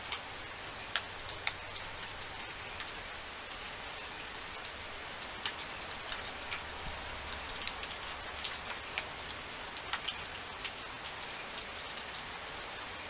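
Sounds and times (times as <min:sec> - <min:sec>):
raindrops ticking: 0:00.0 - 0:13.0
steady rain: 0:00.0 - 0:13.0.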